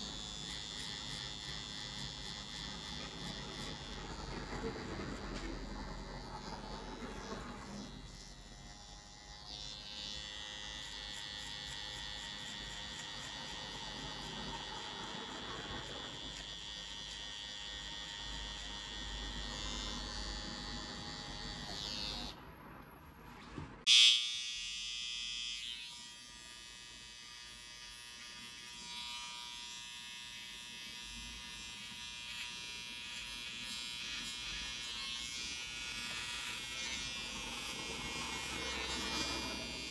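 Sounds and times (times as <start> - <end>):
hair trimmer buzzing: 0.0 - 22.4, 23.9 - 39.9.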